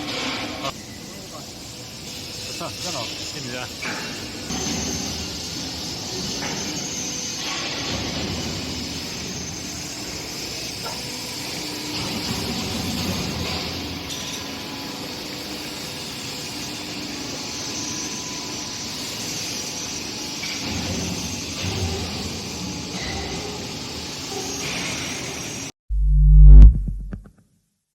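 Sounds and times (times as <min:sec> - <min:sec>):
machine mechanical hum and hiss: 0:00.0 - 0:25.7.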